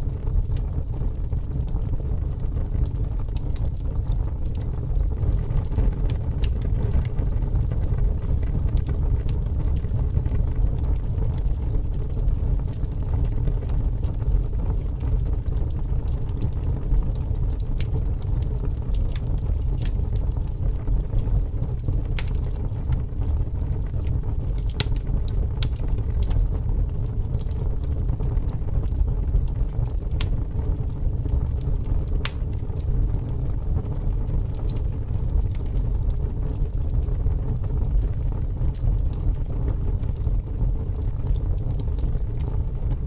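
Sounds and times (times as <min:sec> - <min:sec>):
fire crackling and popping: 0:00.0 - 0:43.0
low rumble of flames: 0:00.0 - 0:43.0.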